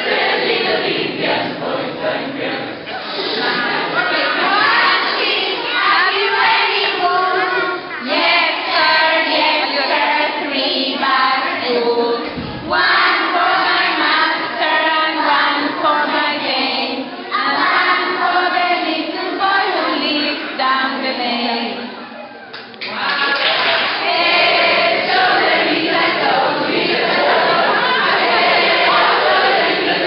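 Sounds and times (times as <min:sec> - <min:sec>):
children singing together: 0:00.0 - 0:30.0.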